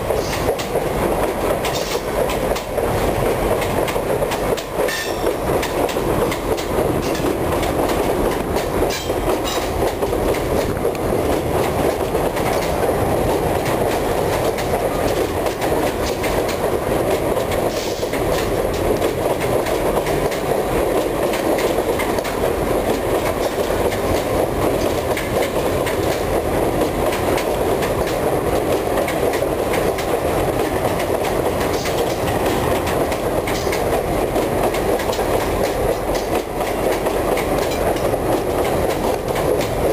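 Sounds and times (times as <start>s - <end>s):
train wagons rolling on rails: 0.0s - 39.9s
wheels clicking over rail joints: 0.0s - 39.9s.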